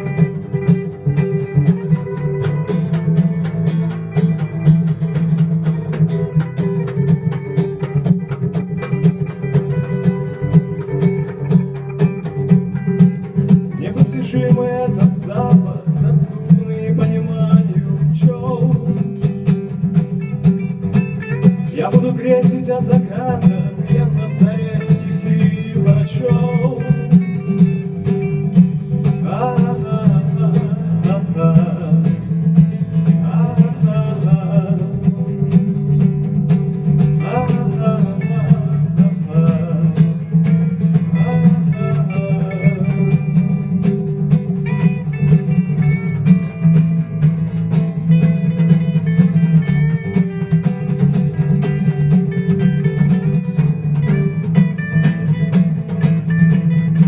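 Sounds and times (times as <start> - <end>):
person singing: 0.0 - 46.6
strummed guitar: 0.0 - 57.0.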